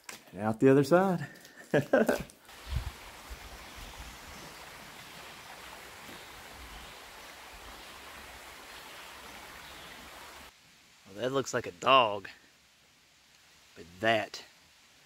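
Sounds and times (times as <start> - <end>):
creek running over stones: 0.0 - 12.2.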